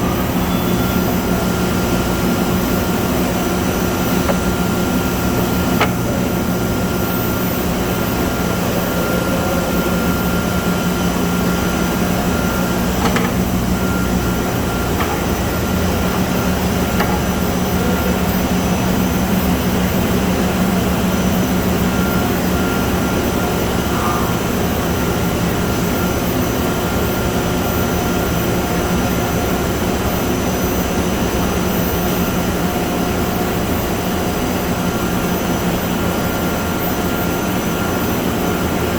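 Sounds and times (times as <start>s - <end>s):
extruder machine drone: 0.0s - 38.9s.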